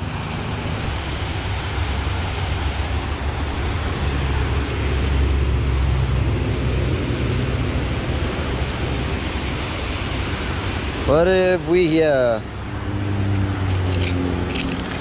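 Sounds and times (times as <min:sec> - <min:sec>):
water pouring over a dam spillway: 0:00.0 - 0:12.6
heavy low rumble: 0:00.0 - 0:15.0.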